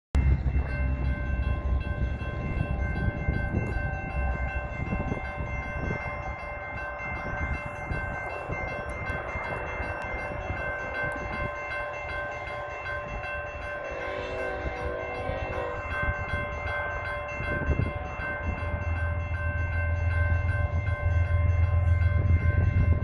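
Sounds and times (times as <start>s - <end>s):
crossing warning bell ringing: 0.2s - 23.0s.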